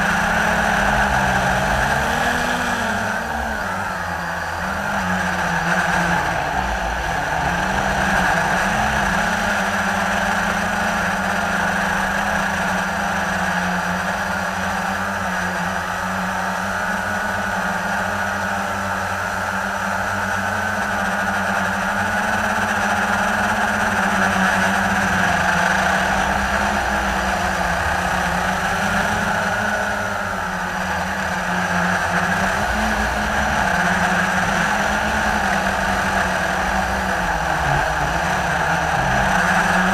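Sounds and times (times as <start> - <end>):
quadcopter motors humming: 0.0 - 39.9.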